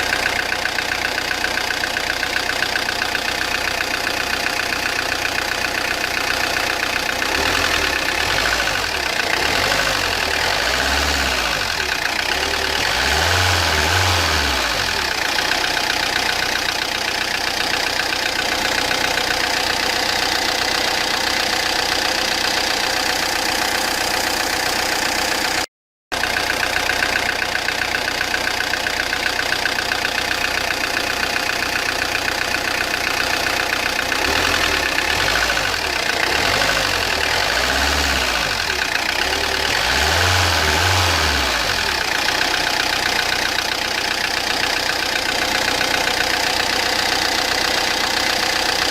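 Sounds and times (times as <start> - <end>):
diesel engine knocking idle: 0.0 - 48.9.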